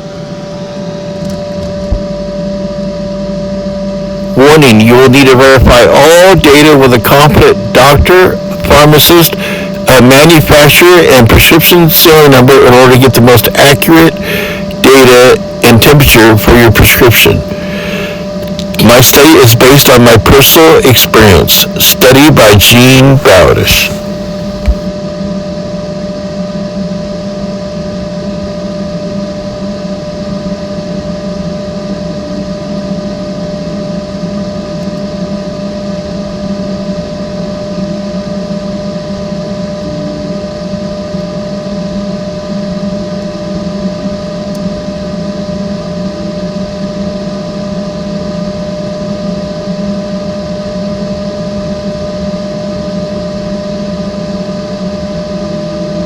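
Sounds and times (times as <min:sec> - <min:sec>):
small fan humming with whine: 0:00.0 - 0:56.0.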